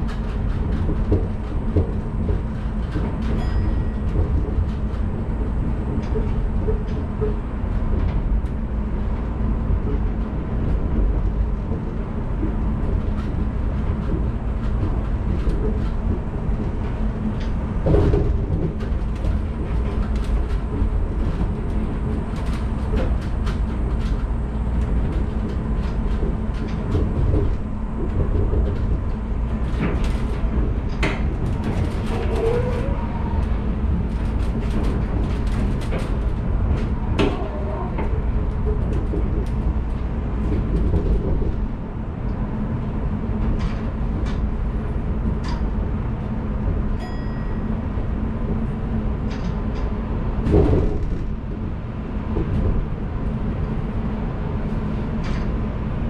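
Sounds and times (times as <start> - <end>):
monorail car rumbling: 0.0 - 56.0.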